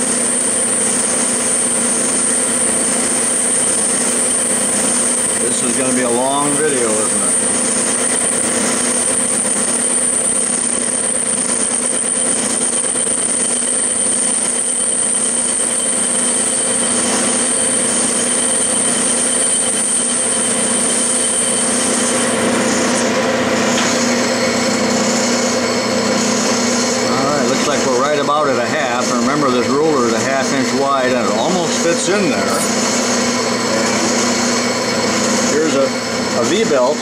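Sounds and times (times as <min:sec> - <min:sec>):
high steady whine: 0:00.0 - 0:37.0
metal lathe running: 0:00.0 - 0:37.0.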